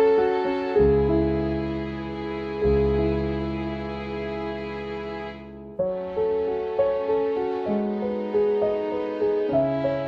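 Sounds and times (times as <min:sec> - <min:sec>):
slow solo piano music: 0:00.0 - 0:10.0.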